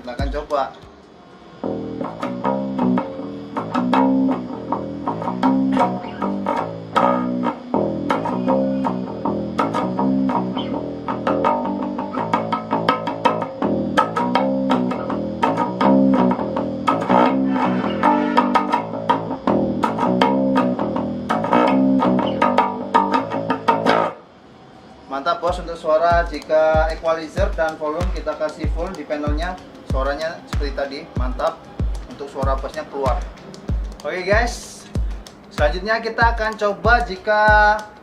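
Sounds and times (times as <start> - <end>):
electric bass plucked notes: 0.0 - 0.7, 1.6 - 24.2, 25.5 - 38.0.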